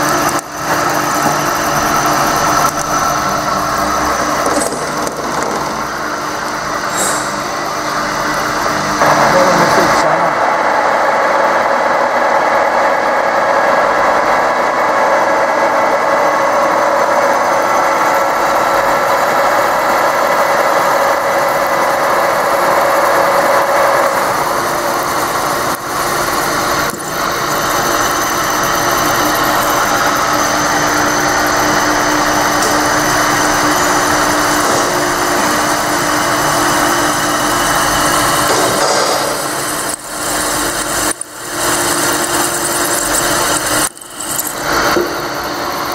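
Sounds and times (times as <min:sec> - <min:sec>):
drill press cutting metal: 0:00.0 - 0:10.2, 0:17.6 - 0:45.9.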